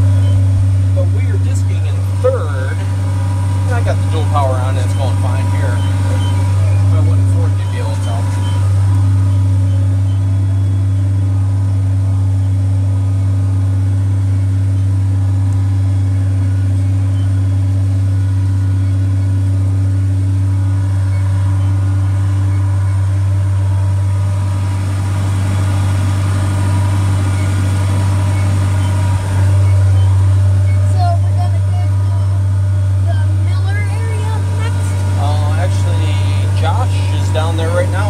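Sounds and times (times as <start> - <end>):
tractor diesel engine drone: 0.0 - 38.0.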